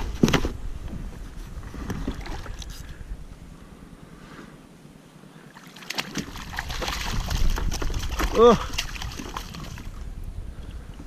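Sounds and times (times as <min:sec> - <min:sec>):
wind rumbling on microphone: 0:00.0 - 0:05.4, 0:06.0 - 0:11.0.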